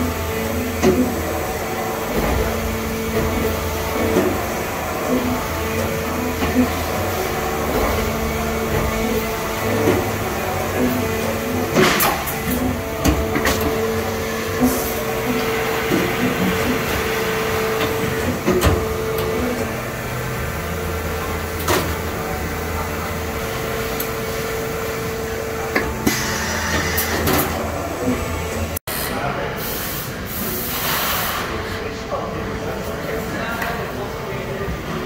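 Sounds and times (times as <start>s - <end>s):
machine hum: 0.0s - 28.8s.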